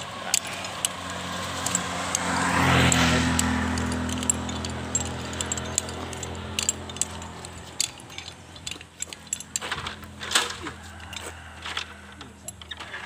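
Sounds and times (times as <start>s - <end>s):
metal gear clinking and jangling: 0.0s - 13.0s.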